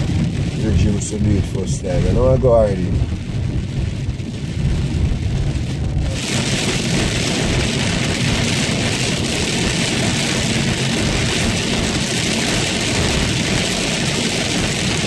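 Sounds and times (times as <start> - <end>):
engine and road rumble: 0.0 - 15.0
heavy rain on car windshield: 0.0 - 15.0.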